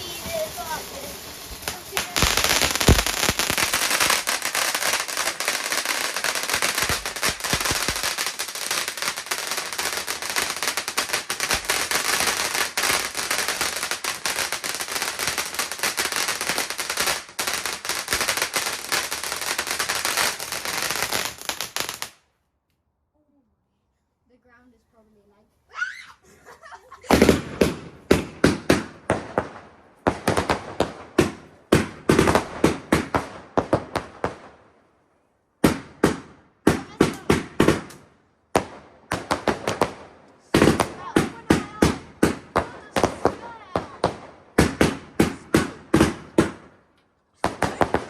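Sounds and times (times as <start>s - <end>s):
fireworks crackling: 0.0s - 22.3s, 25.7s - 34.6s, 35.6s - 48.0s.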